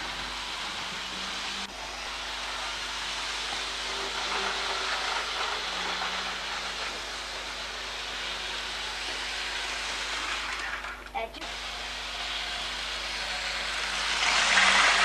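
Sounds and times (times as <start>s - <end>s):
model train whirring: 0.0s - 15.0s.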